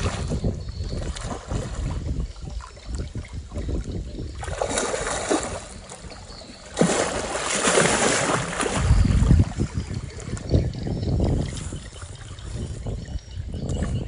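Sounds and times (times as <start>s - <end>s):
water splashing: 0.0s - 14.0s
wind buffeting microphone: 0.0s - 14.0s.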